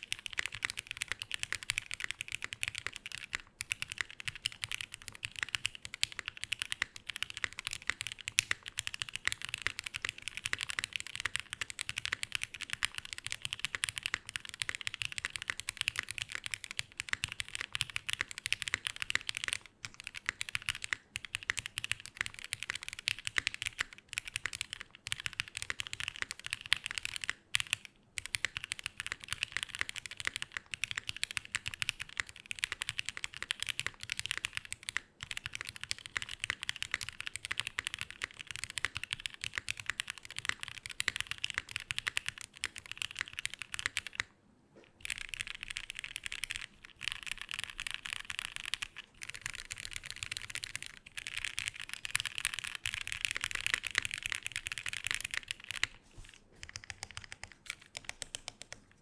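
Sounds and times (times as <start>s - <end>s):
fast mechanical keyboard typing: 0.0s - 44.3s, 45.0s - 56.0s, 56.6s - 59.0s.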